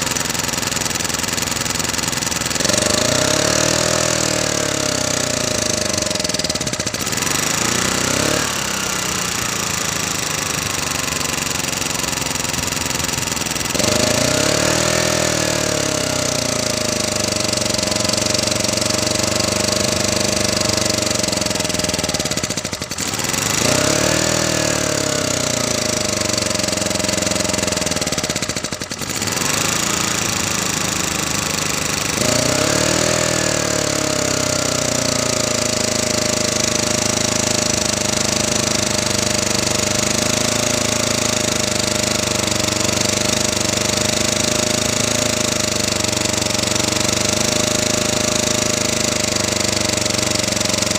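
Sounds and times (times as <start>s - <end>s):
generator engine speed hunting: 0.0s - 50.9s.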